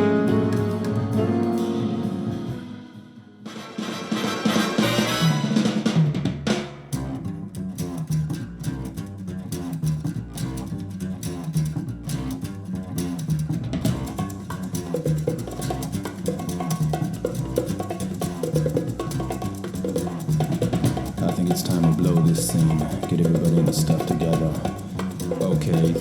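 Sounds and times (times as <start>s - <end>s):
bass guitar riff: 0.0s - 3.4s, 6.8s - 26.0s
drum kit and percussion: 0.0s - 26.0s.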